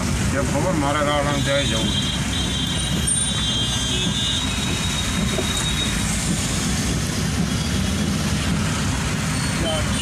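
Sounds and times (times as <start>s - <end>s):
vehicle driving through heavy rain: 0.0s - 10.0s.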